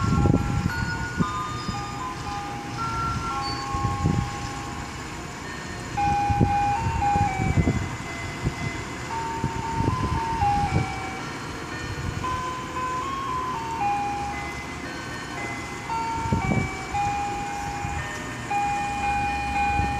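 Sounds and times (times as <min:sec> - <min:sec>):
ice cream truck chime melody: 0:00.0 - 0:19.9.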